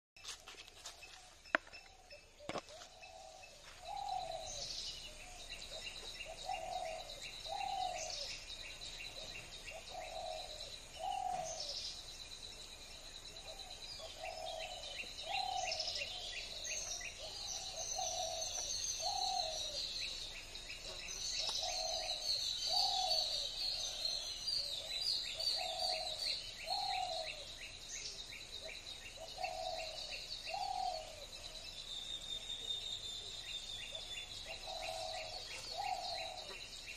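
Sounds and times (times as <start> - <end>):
birds chirping and trilling: 0.2 - 36.9.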